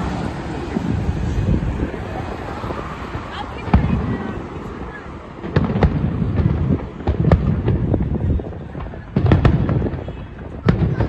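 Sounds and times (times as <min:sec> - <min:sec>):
low rumble: 0:00.0 - 0:10.0
fireworks bangs: 0:00.0 - 0:11.0.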